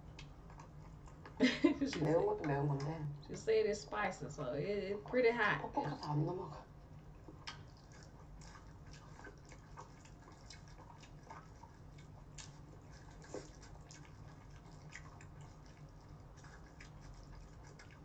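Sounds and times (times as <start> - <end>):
chewing: 0.0 - 3.5, 6.7 - 18.0.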